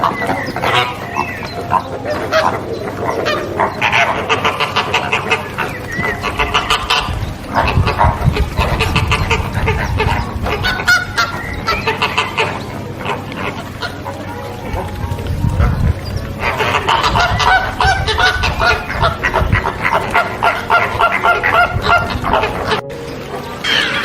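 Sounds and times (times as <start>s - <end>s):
flamingos honking: 0.0s - 24.0s.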